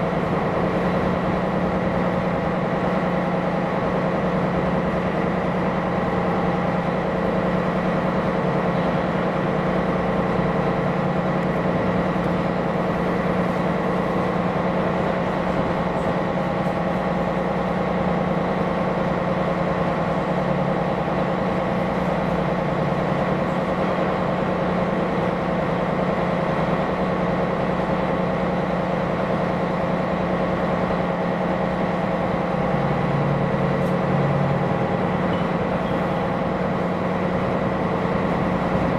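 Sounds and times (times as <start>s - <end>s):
ship diesel engine drone: 0.0s - 38.9s.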